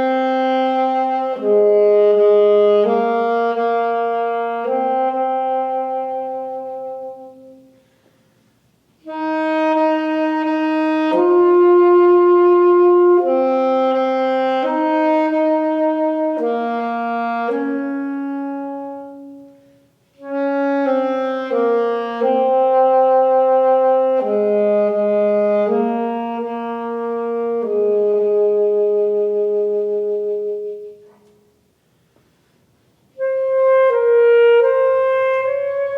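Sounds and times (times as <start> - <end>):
slow wind instrument music: 0.0 - 31.8, 32.7 - 35.9.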